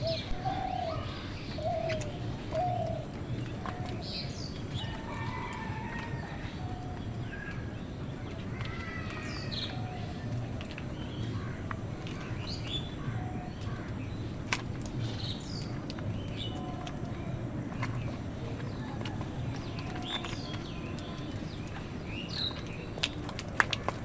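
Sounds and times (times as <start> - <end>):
low background rumble: 0.0 - 24.0
small birds chirping: 0.0 - 24.0.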